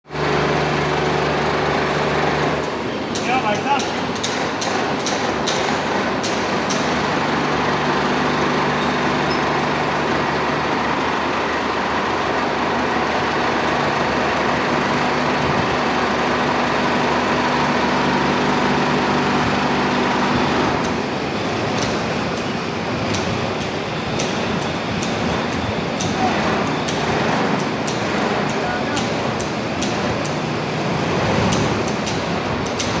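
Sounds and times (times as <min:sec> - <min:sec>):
furnace rushing noise: 0:00.1 - 0:33.0.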